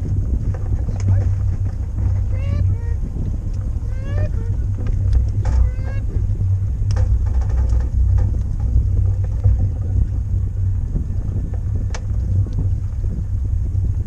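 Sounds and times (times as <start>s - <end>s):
boat low rumble: 0.0s - 14.0s.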